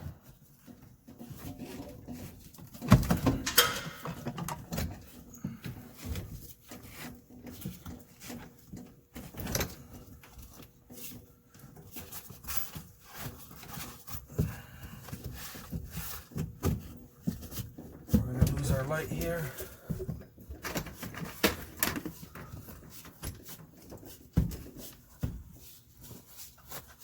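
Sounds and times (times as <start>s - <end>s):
knocks scrapes and rubbing on rubber: 0.0s - 3.4s, 4.1s - 27.0s.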